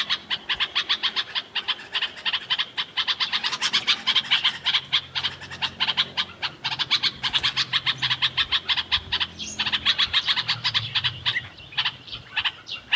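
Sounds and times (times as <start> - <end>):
bird chirping in fast runs: 0.0 - 12.9.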